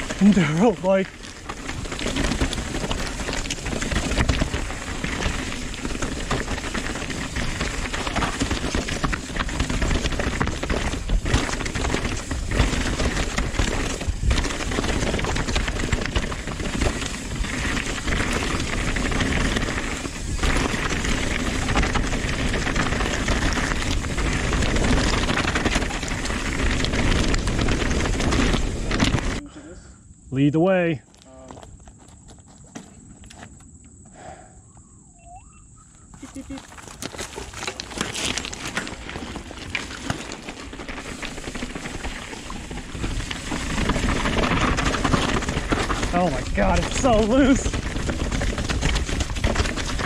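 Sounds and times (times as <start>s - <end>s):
bike rattling knocks: 0.0s - 29.4s, 36.4s - 50.0s
tyres crunching over rock: 0.0s - 29.4s, 30.9s - 34.4s, 35.9s - 50.0s.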